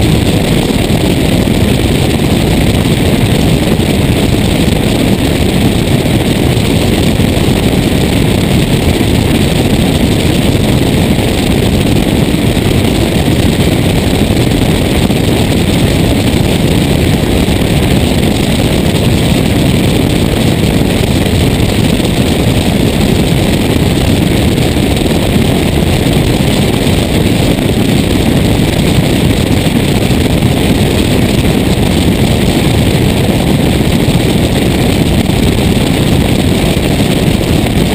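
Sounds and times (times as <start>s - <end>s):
air rushing over camera: 0.0s - 37.9s
aircraft engine and propeller drone: 0.0s - 37.9s.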